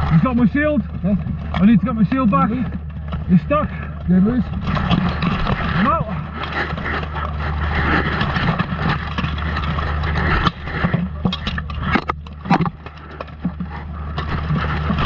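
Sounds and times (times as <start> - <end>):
plate armour rattling and scraping: 0.0 - 15.0
steady rumble: 0.0 - 15.0.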